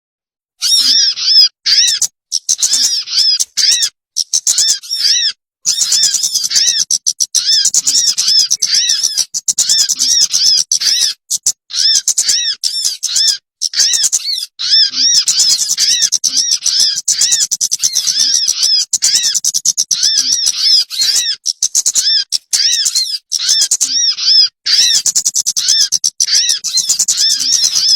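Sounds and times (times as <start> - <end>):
bird chattering calls: 0.6 - 27.9.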